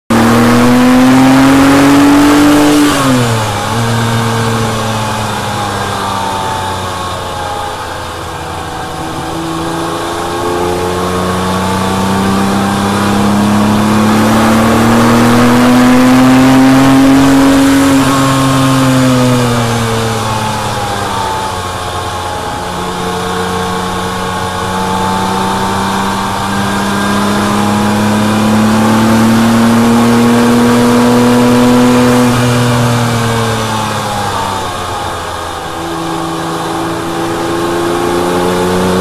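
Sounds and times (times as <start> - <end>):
car engine revving under hard driving: 0.0 - 39.0.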